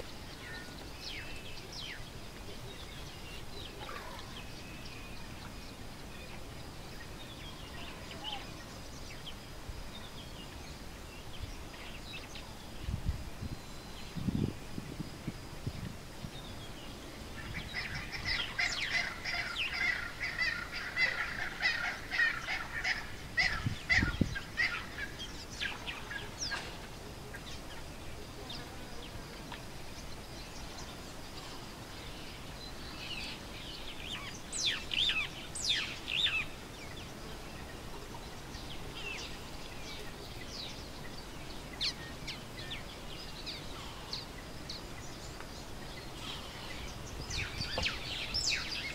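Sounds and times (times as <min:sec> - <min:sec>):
birds chattering: 0:00.0 - 0:14.5, 0:16.3 - 0:48.9
outdoor background: 0:00.0 - 0:48.9.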